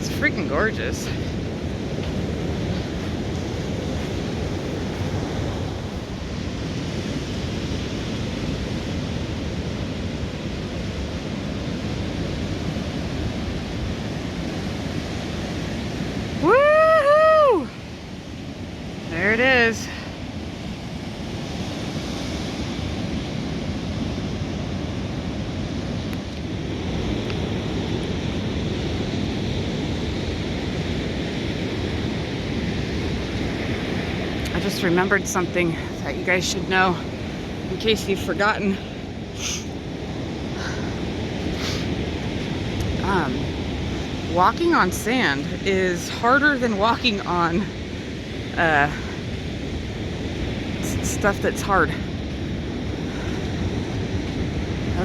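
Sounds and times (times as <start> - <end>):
rushing water: 0.0 - 55.0
wind on microphone: 0.0 - 55.0.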